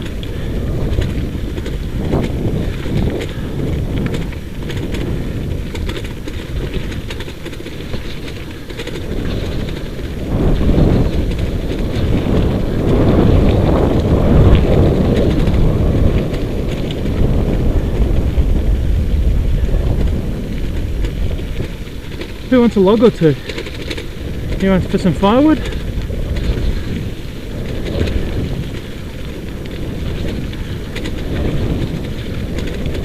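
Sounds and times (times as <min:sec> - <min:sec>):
sled rumbling on gravel: 0:00.0 - 0:33.0
wind buffeting microphone: 0:00.0 - 0:33.0.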